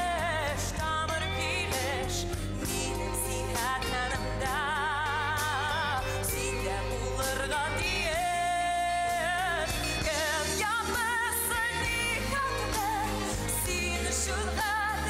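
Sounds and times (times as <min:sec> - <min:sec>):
instrumental backing track: 0:00.0 - 0:15.0
woman singing with vibrato: 0:00.0 - 0:15.0.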